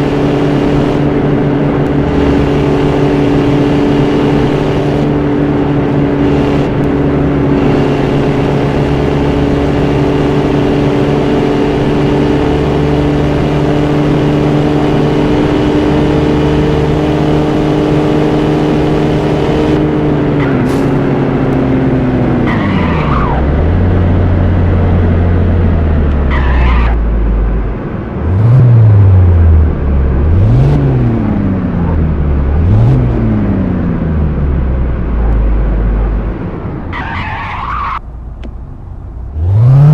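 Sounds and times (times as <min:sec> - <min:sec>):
engine revving: 0:00.0 - 0:24.9, 0:28.2 - 0:35.5, 0:39.2 - 0:39.9.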